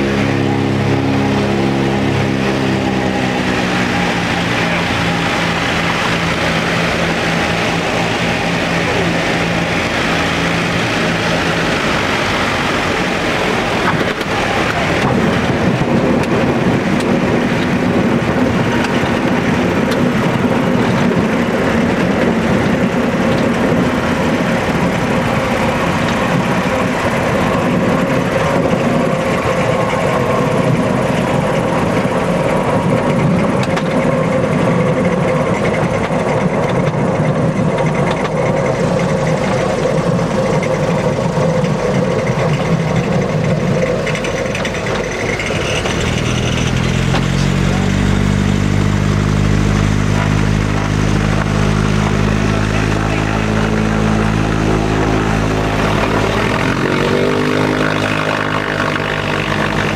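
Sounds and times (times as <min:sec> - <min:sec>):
airplane cabin engine drone: 0:00.0 - 0:59.9
propellers humming: 0:00.0 - 0:59.9.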